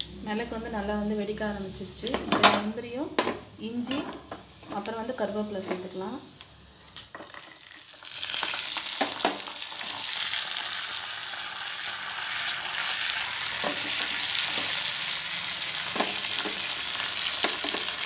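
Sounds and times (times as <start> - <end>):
spices sizzling in hot oil: 3.4 - 18.0.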